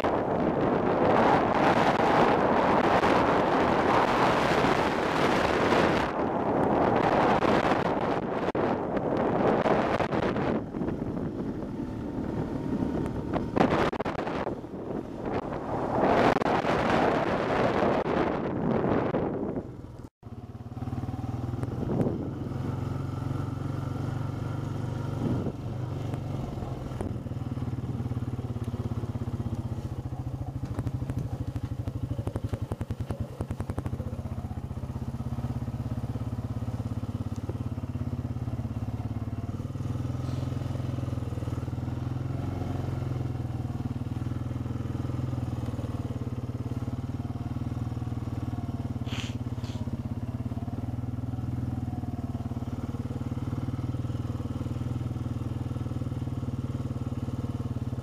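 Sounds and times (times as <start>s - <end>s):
small vehicle engine running: 0.0s - 58.0s.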